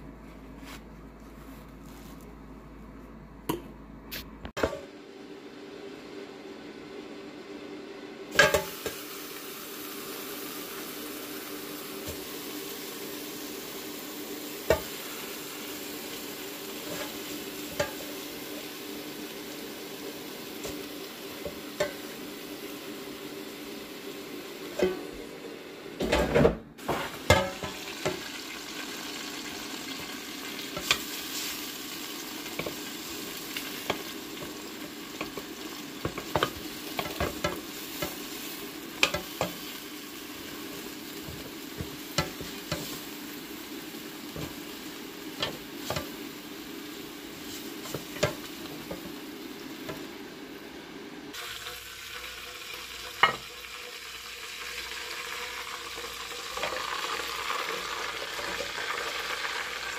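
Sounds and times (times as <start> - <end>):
air fryer fan hum: 0.0 - 59.9
chicken sizzling: 4.1 - 26.1, 26.7 - 59.9.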